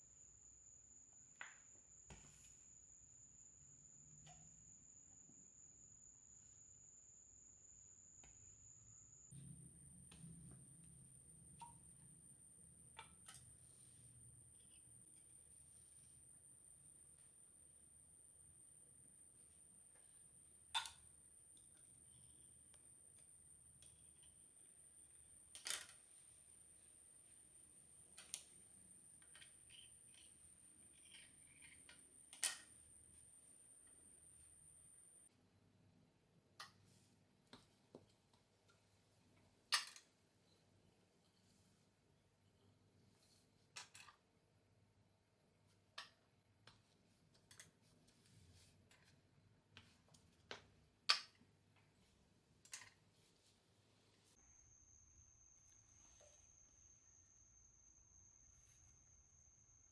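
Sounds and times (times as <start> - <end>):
faint high whine: 0.0 - 59.9.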